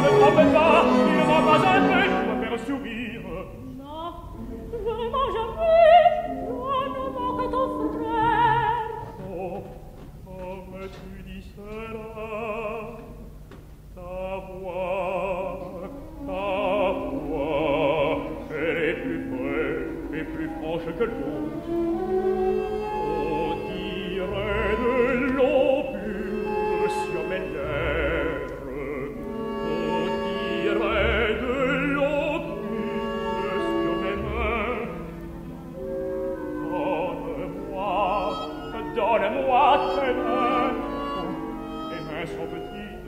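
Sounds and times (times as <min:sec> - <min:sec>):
opera singers with vibrato: 0:00.0 - 0:13.2, 0:14.0 - 0:35.3, 0:36.3 - 0:43.0
full orchestra: 0:00.0 - 0:43.0.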